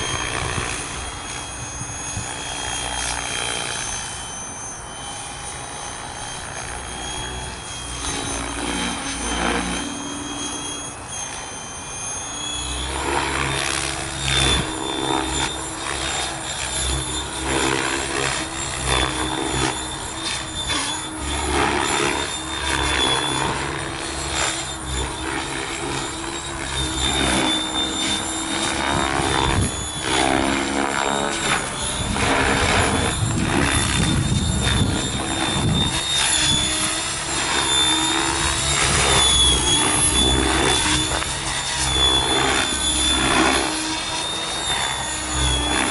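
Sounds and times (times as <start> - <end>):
helicopter motor whine: 0.0 - 45.9
rotor blades whooshing: 0.0 - 45.9.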